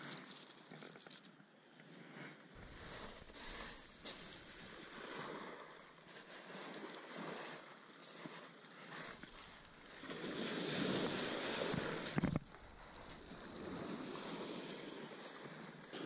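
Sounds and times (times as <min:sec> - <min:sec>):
waves breaking on shingle beach: 0:00.0 - 0:01.3, 0:01.9 - 0:16.0.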